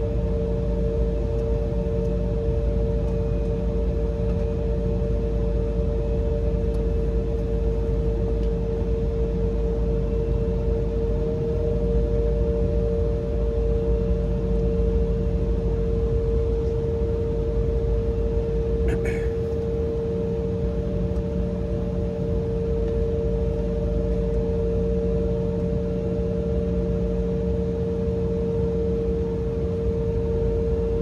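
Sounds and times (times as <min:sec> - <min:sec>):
low cabin rumble: 0:00.0 - 0:26.7, 0:28.1 - 0:31.0
jet engines whining: 0:00.0 - 0:31.0.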